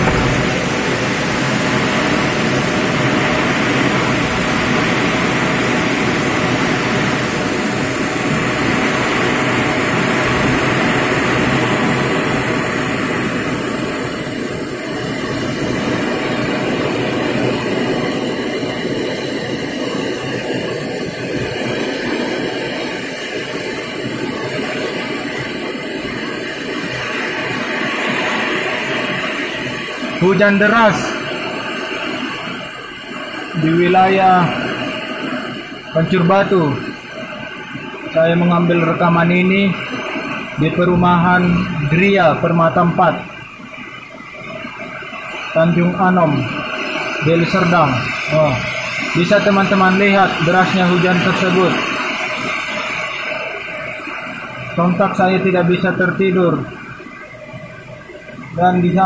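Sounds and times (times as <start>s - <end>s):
strong gusting wind: 0.0s - 58.6s
heavy rain pouring: 0.0s - 59.0s.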